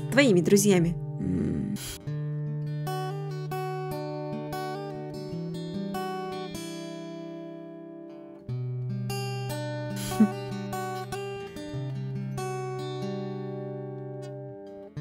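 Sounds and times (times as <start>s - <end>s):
plucked acoustic guitar music: 1.8s - 15.0s.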